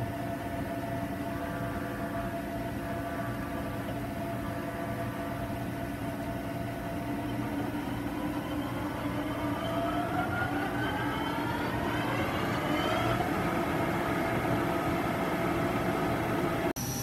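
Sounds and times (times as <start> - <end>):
lathe machine whine and hum: 0.0 - 17.0
whine rising in pitch: 0.0 - 17.0.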